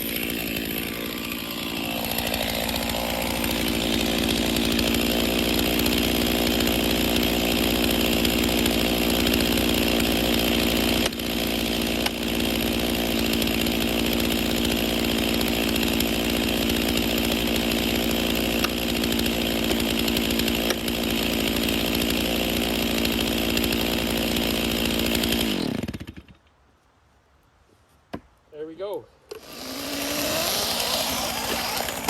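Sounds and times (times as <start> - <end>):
chainsaw running: 0.0 - 26.4, 29.3 - 32.0.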